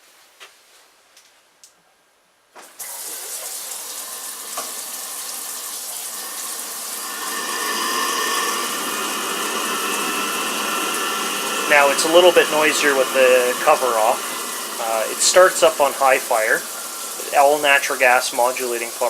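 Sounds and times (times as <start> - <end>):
tap water running: 2.6 - 19.0
water heater whine: 2.7 - 19.0.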